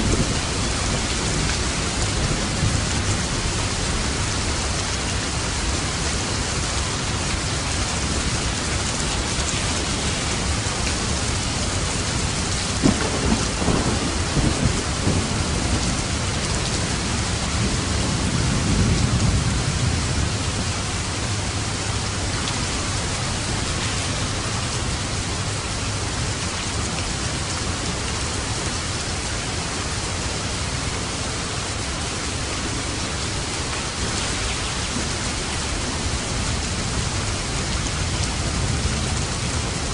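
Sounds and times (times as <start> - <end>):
thunder crackling and rumbling: 0.0 - 29.3, 30.2 - 39.9
heavy rain: 0.0 - 39.9.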